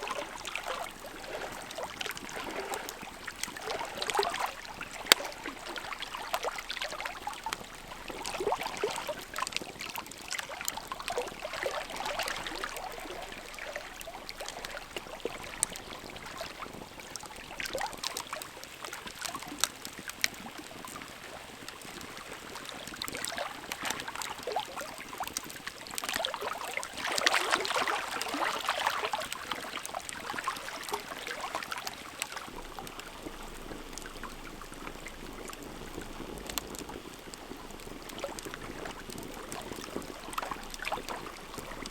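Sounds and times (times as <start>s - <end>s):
wood crackles and pops: 0.0s - 41.9s.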